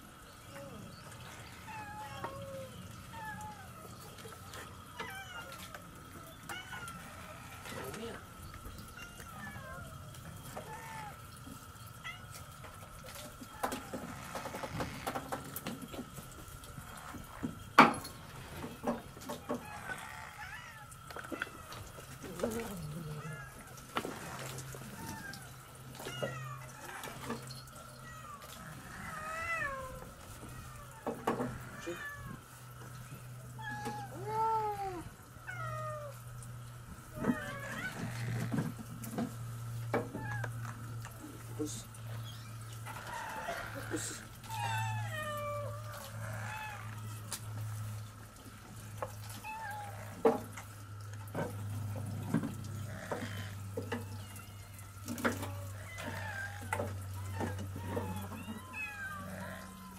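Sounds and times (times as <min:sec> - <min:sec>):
cats meowing: 0:00.4 - 0:15.2, 0:19.3 - 0:38.6, 0:39.9 - 0:41.4, 0:42.1 - 0:48.0, 0:48.8 - 0:50.3, 0:52.7 - 0:59.9.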